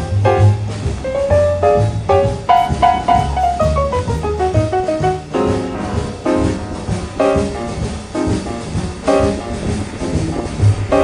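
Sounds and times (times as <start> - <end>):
instrumental jazz music: 0.0 - 11.0.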